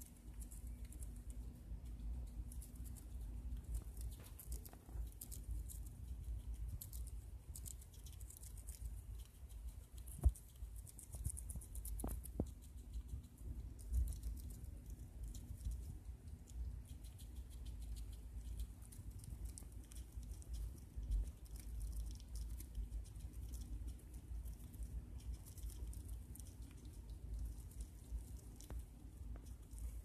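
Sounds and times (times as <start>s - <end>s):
rat teeth nibbling: 0.0s - 30.0s.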